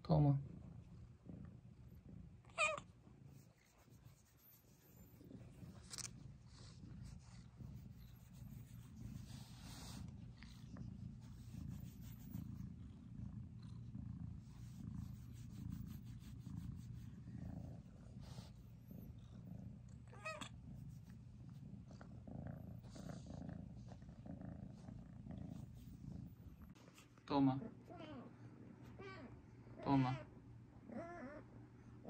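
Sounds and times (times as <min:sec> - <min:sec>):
kitten purring: 0:00.0 - 0:32.0.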